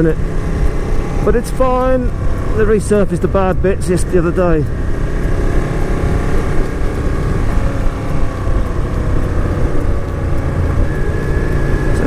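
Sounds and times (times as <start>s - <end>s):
motorcycle engine cruising: 0.0s - 12.0s
road noise: 0.0s - 12.0s
wind noise: 0.0s - 12.0s.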